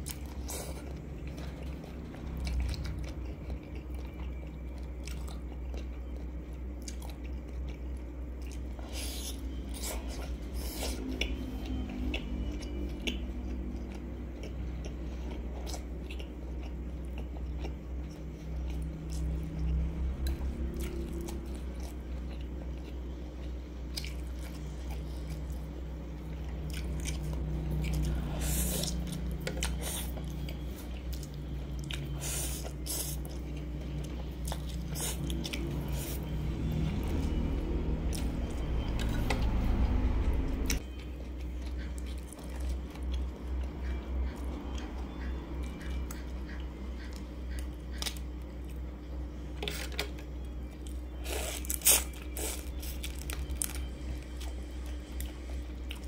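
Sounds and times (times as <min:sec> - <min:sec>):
chewing noodles: 0:00.0 - 0:56.0
steady low hum: 0:00.0 - 0:56.0.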